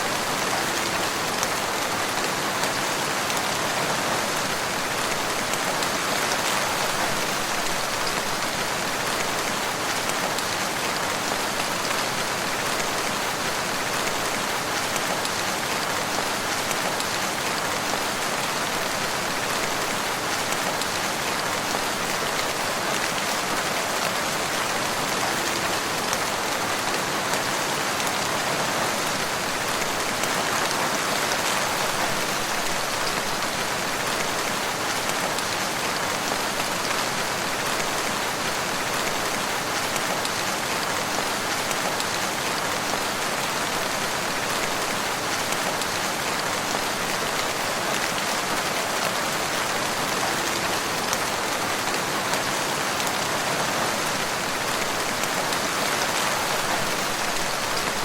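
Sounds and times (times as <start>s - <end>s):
rain falling in woodland: 0.0s - 58.0s.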